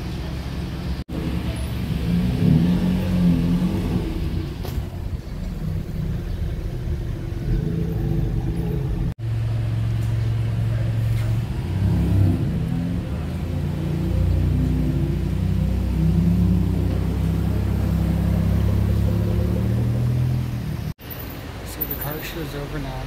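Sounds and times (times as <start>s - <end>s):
car engine pulling away: 0.0s - 21.0s
car engine running at low revs: 0.0s - 21.0s.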